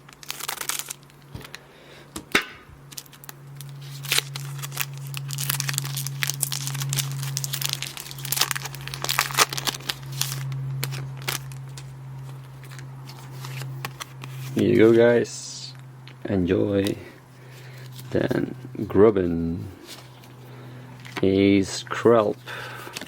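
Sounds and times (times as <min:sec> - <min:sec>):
foil wrapper crinkling and tearing: 0:00.0 - 0:01.6, 0:02.8 - 0:18.9, 0:19.8 - 0:23.0
steady low hum: 0:00.0 - 0:23.0.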